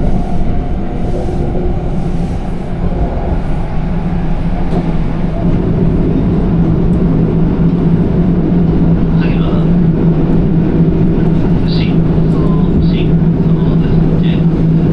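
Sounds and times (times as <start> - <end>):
constant low hum: 0.0 - 14.9
train wheels rumbling: 0.0 - 14.9.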